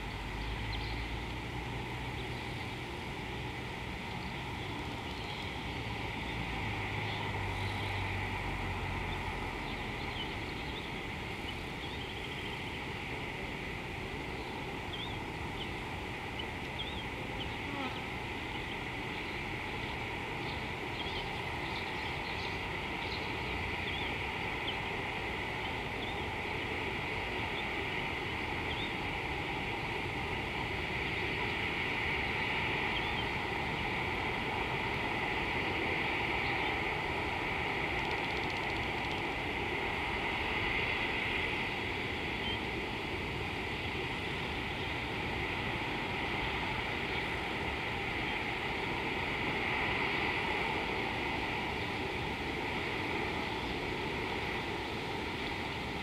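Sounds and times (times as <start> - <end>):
steady outdoor background hiss: 0.0 - 56.0.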